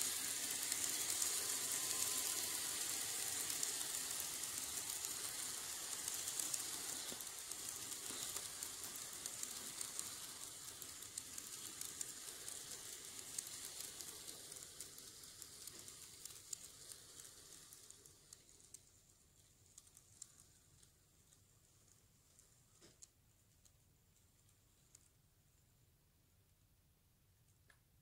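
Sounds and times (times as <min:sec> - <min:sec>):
model train running on track: 0:00.0 - 0:23.8.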